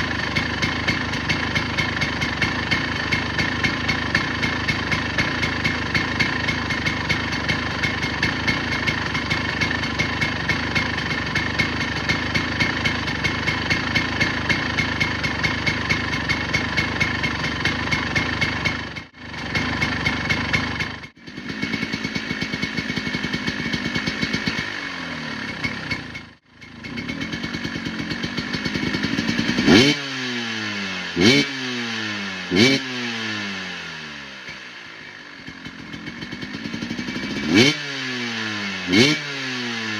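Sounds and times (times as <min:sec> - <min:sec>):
dirt bike engine idling: 0:00.0 - 0:39.9.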